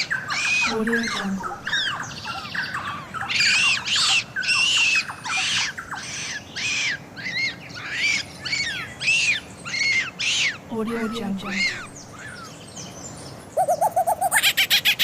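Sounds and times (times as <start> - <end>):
shrill squawking bird calls: 0.0 - 12.5, 13.6 - 15.0.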